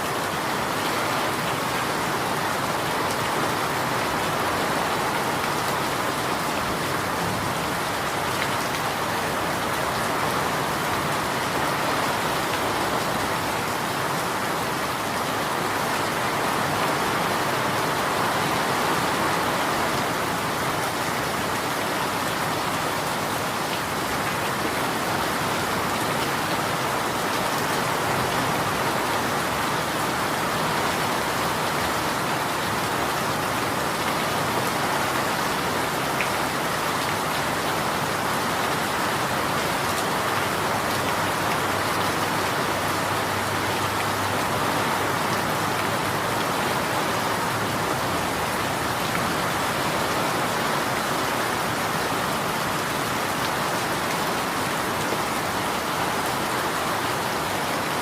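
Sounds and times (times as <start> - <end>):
rain falling on a surface: 0.0 - 58.0.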